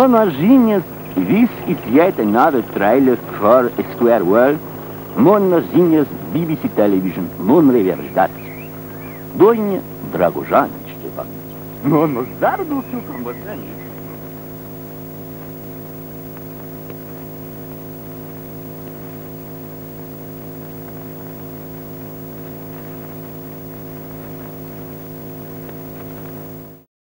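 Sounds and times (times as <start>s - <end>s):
constant hiss: 0.0s - 26.9s
electrical mains hum and buzz: 0.0s - 26.9s.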